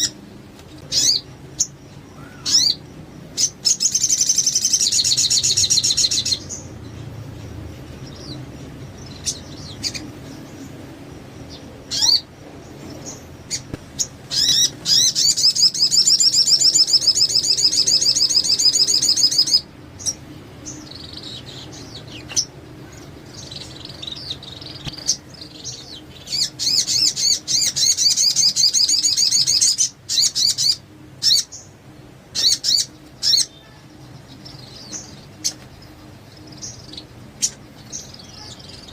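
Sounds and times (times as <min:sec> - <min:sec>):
songbird calls and trills: 0:00.0 - 0:38.9.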